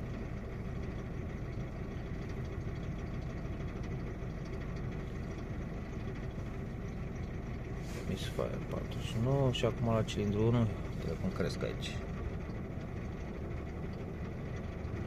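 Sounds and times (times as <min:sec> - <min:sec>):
car engine idling with misfire: 0:00.0 - 0:15.0.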